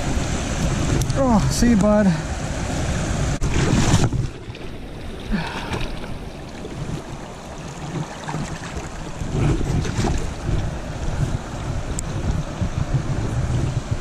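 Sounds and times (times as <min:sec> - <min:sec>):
creek running: 0:00.0 - 0:14.0
wind buffeting microphone: 0:00.0 - 0:14.0.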